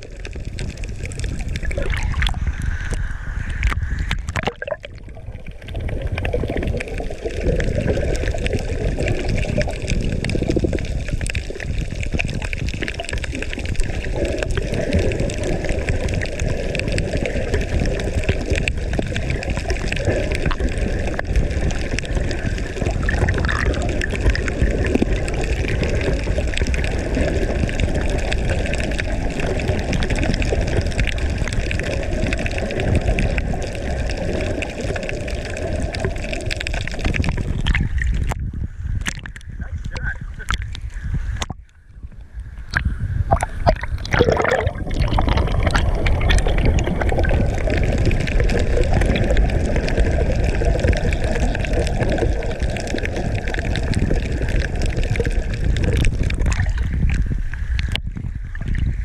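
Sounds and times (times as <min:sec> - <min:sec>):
water sloshing and bubbling: 0:00.0 - 0:59.0.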